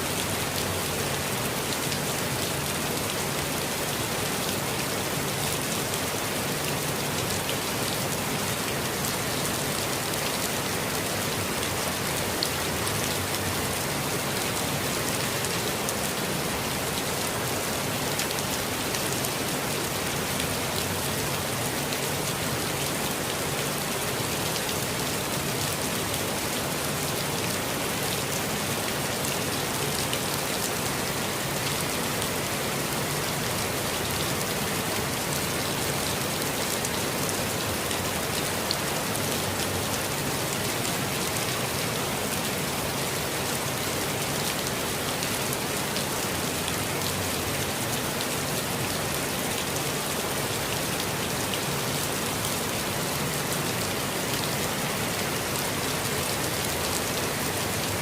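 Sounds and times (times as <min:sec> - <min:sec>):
gentle rain hiss: 0:00.0 - 0:58.0.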